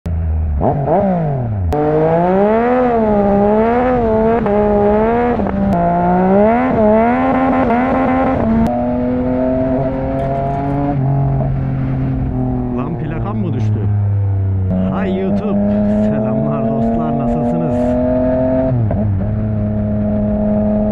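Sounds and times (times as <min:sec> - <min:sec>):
motorcycle engine revving: 0:00.1 - 0:20.9.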